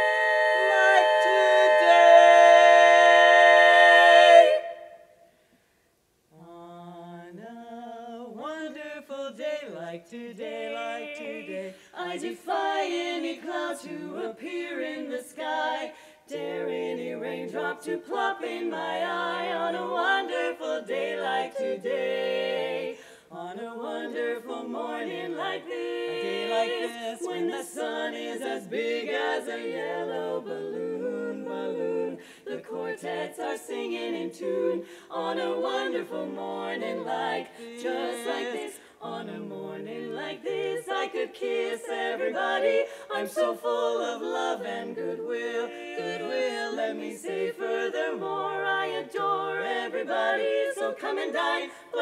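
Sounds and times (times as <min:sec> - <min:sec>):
women singing in close harmony: 0:00.0 - 0:05.4, 0:06.3 - 0:52.0.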